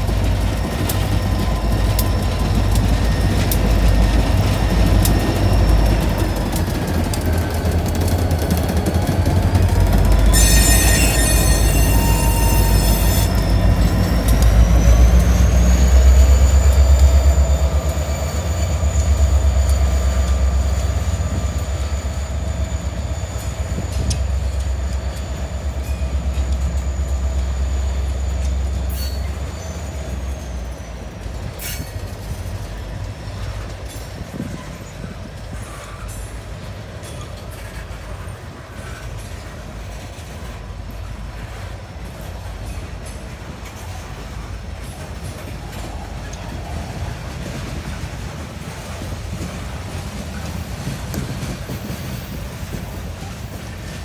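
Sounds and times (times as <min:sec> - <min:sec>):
deep rumble of diesel locomotives: 0:00.0 - 0:54.0
high train wheel squeal: 0:00.0 - 0:54.0.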